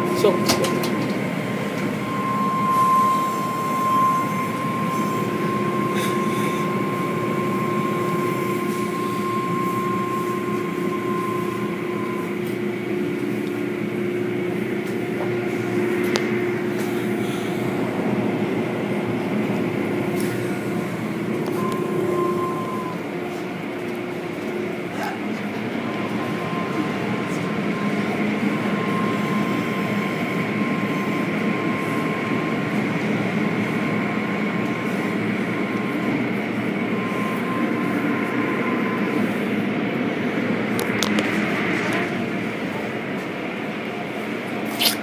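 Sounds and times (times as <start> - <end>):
car wash machinery rumble: 0.0 - 45.0
steady high whine: 0.0 - 45.0.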